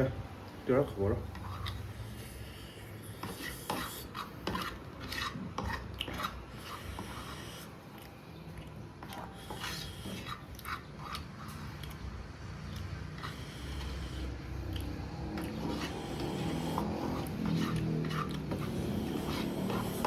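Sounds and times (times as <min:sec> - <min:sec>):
utensils scraping a bowl: 0:01.2 - 0:08.1, 0:09.0 - 0:12.1, 0:12.7 - 0:20.0.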